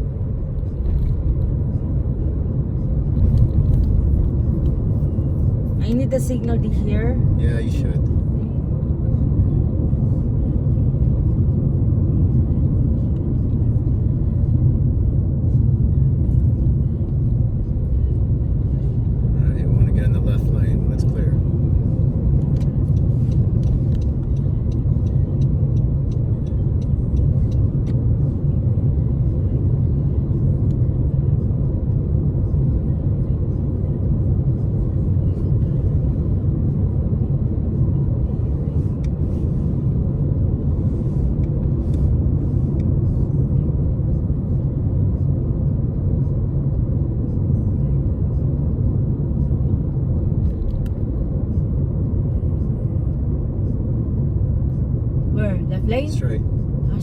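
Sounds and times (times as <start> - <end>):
car road rumble inside cabin: 0.0 - 57.0.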